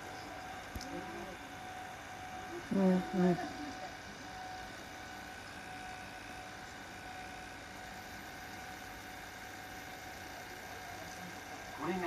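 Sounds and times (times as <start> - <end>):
faint high whines: 0.0 - 12.0
tape recorder hiss and hum: 0.0 - 12.0.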